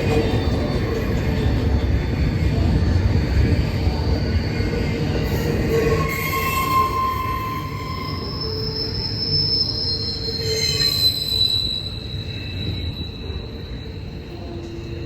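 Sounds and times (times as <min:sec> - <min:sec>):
low rumble of freight cars: 0:00.0 - 0:15.0
train wheels squealing on rail: 0:00.0 - 0:15.0.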